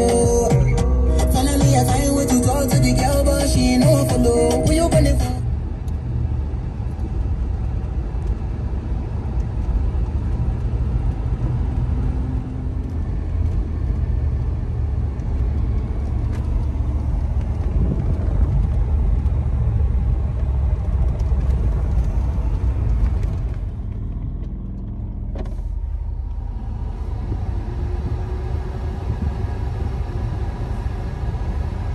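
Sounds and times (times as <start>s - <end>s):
low rumble of engine and road: 0.0s - 31.9s.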